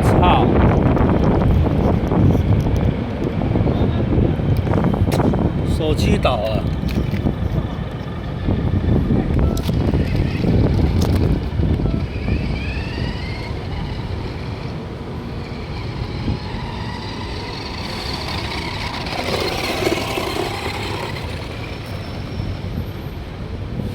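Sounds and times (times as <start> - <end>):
toy car motor rumbling: 0.7 - 2.8, 6.0 - 23.4.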